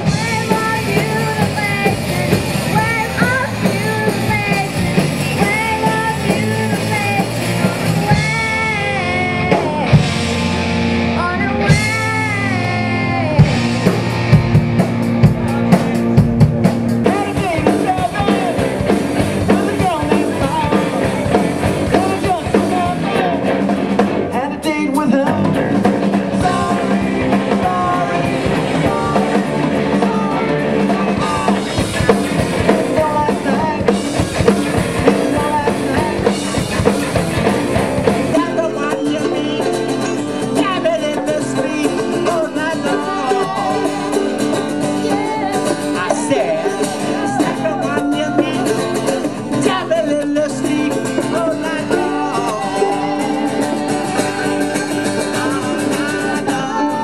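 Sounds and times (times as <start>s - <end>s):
rock band with singer: 0.0s - 57.0s.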